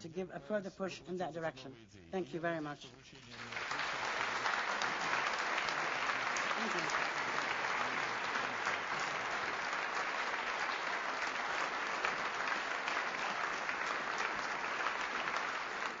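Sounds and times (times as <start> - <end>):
audience clapping: 3.2 - 16.0.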